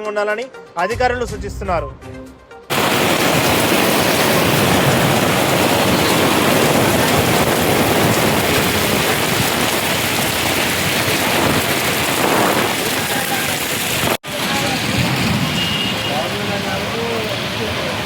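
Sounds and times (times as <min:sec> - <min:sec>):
heavy rain pouring: 0:02.7 - 0:18.0.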